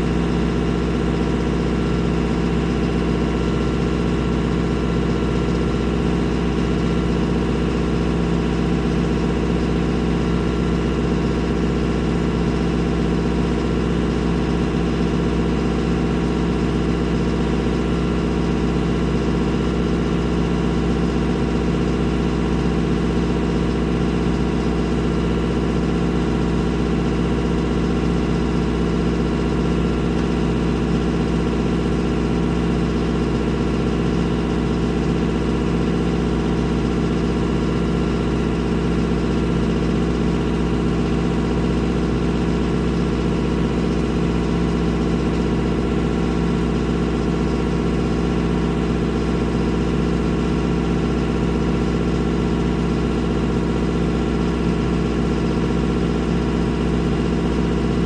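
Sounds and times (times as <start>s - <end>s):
vehicle engine running steadily: 0.0s - 58.0s.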